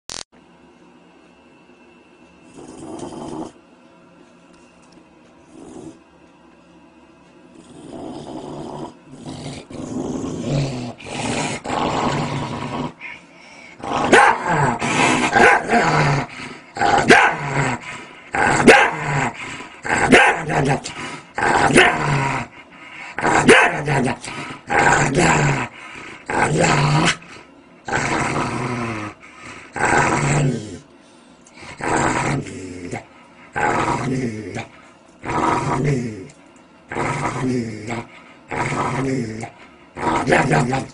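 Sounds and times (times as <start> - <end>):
dog growling and barking: 2.5 - 3.6, 5.5 - 6.0, 7.5 - 30.9, 31.6 - 40.9.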